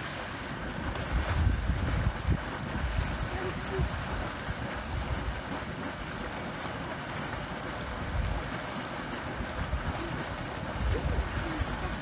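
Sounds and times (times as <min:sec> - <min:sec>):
mud pool venting steam: 0:00.0 - 0:12.0
wind on microphone: 0:00.0 - 0:12.0.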